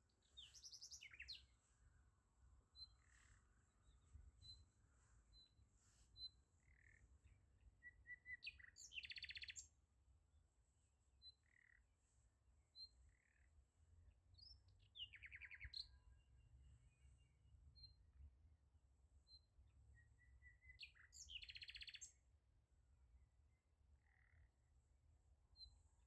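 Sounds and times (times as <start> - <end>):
faint bird chirps: 0.0 - 9.8, 11.2 - 18.1, 19.2 - 22.3, 23.5 - 26.0.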